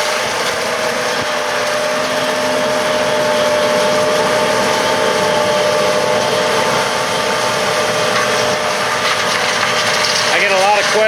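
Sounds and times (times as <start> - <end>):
combine harvester engine drone: 0.0 - 11.0
machinery whine: 0.0 - 11.0.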